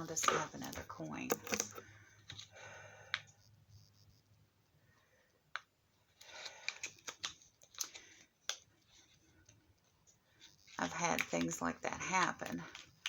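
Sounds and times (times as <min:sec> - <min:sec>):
small clicks and packaging rustling: 0:00.0 - 0:03.5, 0:04.9 - 0:13.0.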